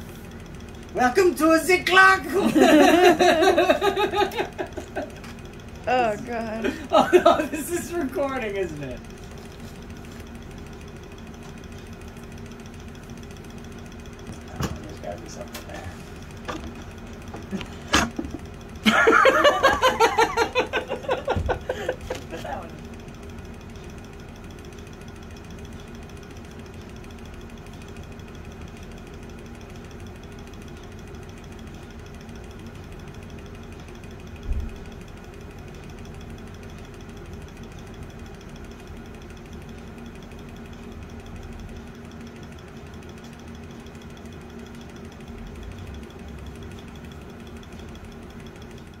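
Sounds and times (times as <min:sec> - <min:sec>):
clock movement rattling: 0:00.3 - 0:49.0.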